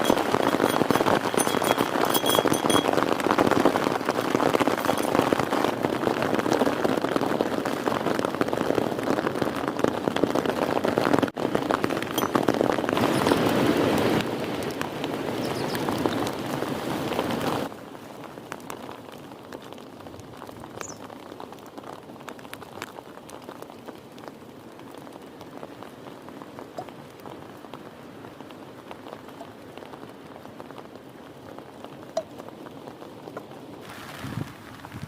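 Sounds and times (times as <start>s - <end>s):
rain patter: 0.0s - 35.0s.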